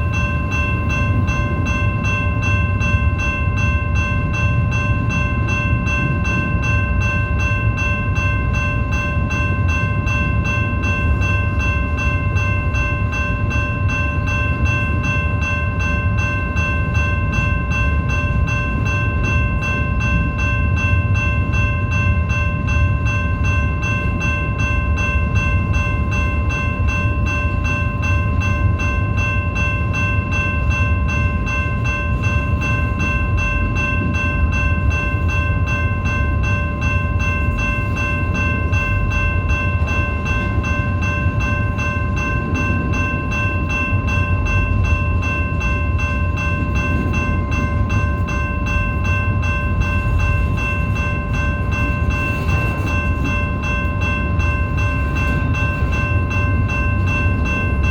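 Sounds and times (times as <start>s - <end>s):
high-pitched ringing tones: 0.0s - 57.9s
train rumbling past: 0.0s - 57.9s.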